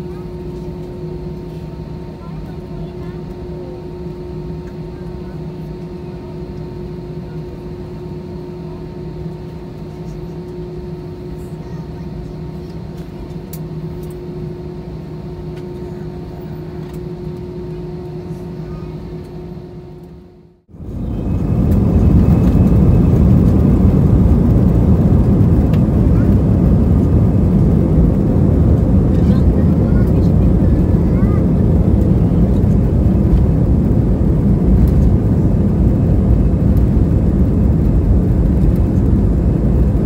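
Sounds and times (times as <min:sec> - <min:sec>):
jet engine hum while taxiing: 0:00.0 - 0:40.0
jet engines roaring at takeoff: 0:00.0 - 0:40.0.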